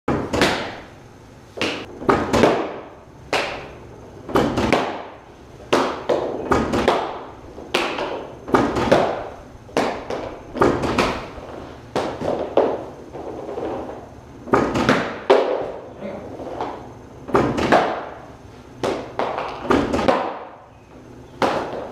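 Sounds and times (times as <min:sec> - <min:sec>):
hockey pucks striking pads: 0:00.1 - 0:00.9, 0:01.5 - 0:21.9.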